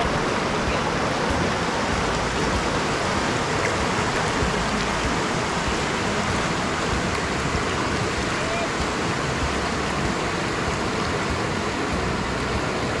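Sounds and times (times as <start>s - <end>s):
water rushing over rock: 0.0s - 13.0s.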